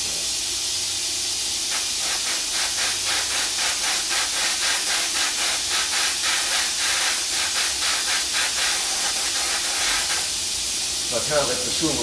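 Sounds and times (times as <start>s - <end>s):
airbrush hiss pulsing: 0.0s - 12.0s.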